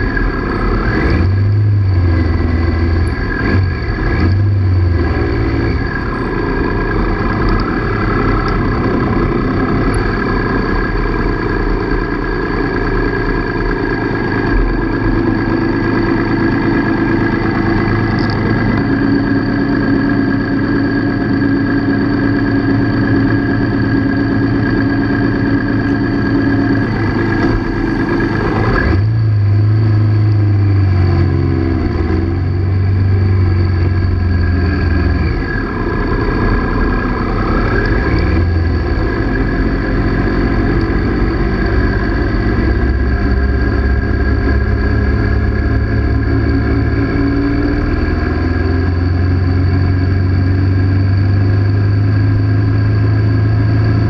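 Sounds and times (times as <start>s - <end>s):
motorcycle engine rough idle: 5.6s - 54.0s.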